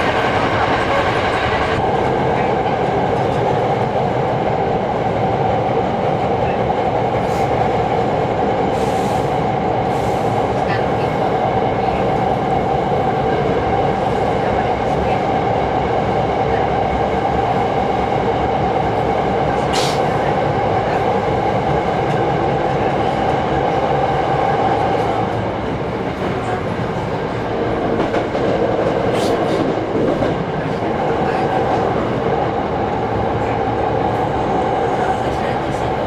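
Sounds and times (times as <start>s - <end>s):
train hum: 0.0s - 36.0s
train running noise: 0.0s - 36.0s.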